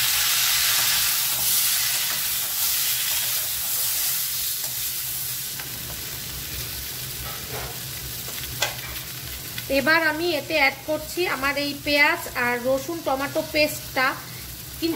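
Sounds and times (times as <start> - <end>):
vegetables sizzling in hot oil: 0.0 - 14.9.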